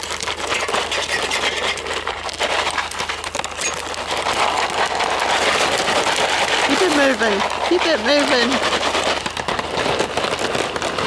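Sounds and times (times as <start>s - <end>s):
popcorn popping: 0.0s - 11.0s.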